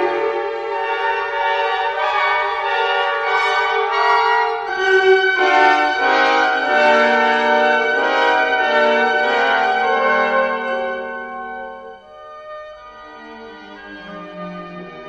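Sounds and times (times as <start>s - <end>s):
instrumental ensemble music: 0.0s - 15.0s.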